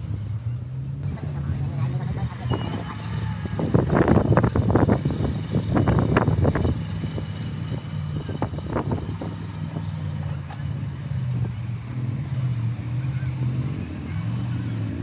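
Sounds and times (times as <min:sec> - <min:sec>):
truck engine running at low revs: 0:00.0 - 0:15.0.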